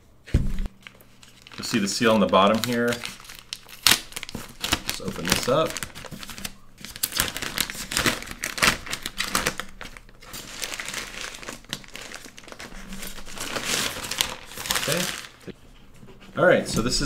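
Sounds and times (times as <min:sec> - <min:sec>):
packaging rustling and scraping: 0:00.6 - 0:15.6.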